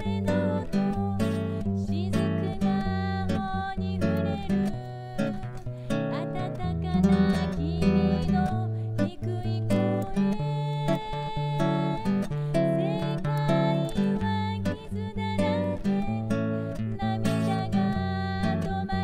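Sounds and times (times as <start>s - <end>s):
acoustic guitar background music: 0.0s - 19.0s.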